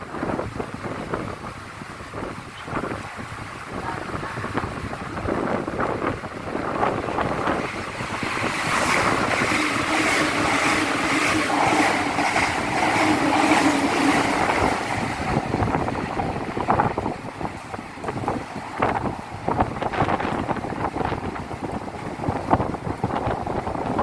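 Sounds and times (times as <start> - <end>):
express train passing: 0.0 - 24.0
heavy rain: 0.0 - 24.0
wind buffeting microphone: 0.0 - 24.0
train wheels clacking: 4.7 - 24.0.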